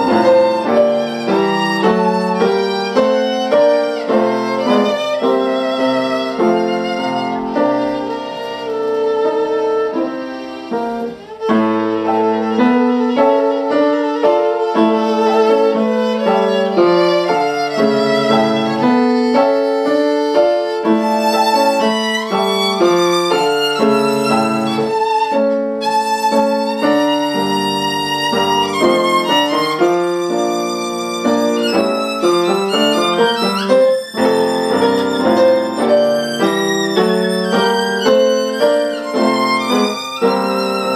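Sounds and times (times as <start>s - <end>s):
solo violin melody: 0.0s - 40.9s.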